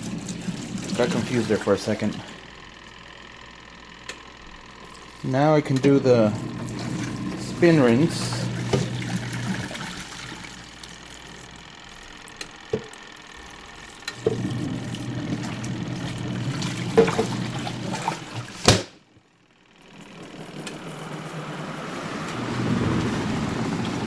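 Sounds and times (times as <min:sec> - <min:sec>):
water pouring into spin basket: 0:00.0 - 0:02.5, 0:04.9 - 0:12.4, 0:13.4 - 0:18.6, 0:20.0 - 0:24.0
steady low hum: 0:00.0 - 0:24.0.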